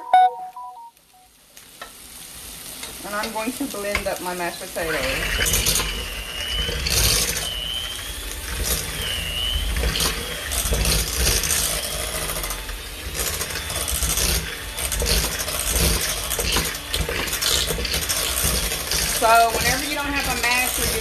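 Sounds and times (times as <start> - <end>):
beaters scraping pot: 2.8 - 21.0
electric mixer motor running: 2.9 - 21.0.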